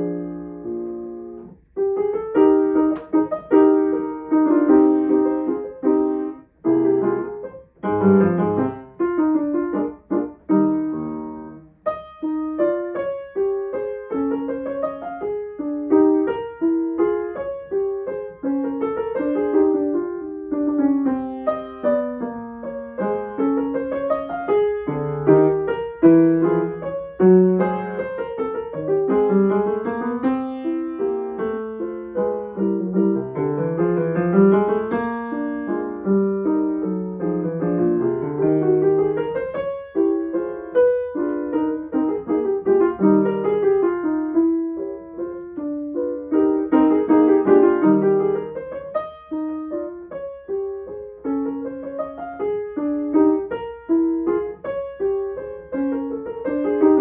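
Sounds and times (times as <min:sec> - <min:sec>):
brisk grand piano piece: 0:00.0 - 0:57.0.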